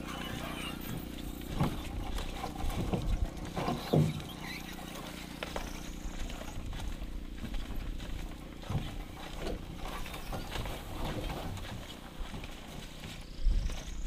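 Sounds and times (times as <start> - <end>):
footsteps on dirt trail: 0.0 - 14.0
steady low hum: 0.0 - 14.0.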